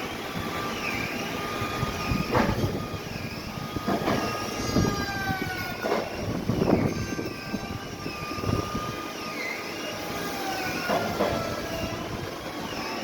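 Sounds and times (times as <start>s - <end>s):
sawmill machinery whine: 0.0s - 13.0s.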